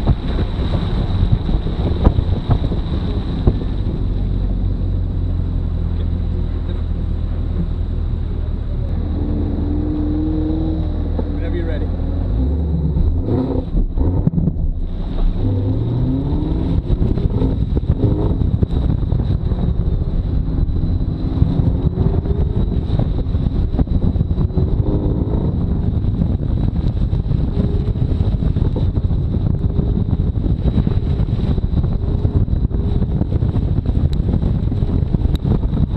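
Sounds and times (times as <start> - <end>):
car engine revving: 0.0 - 35.4.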